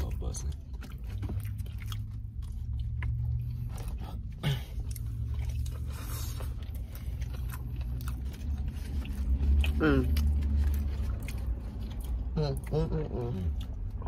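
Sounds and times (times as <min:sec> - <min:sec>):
close chewing and crunching: 0:00.0 - 0:14.0
low steady hum: 0:00.0 - 0:14.0.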